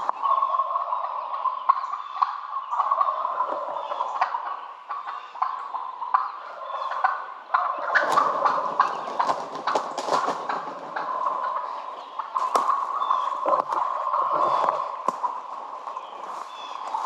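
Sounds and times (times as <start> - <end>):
wild turkeys gobbling: 0.0 - 17.0.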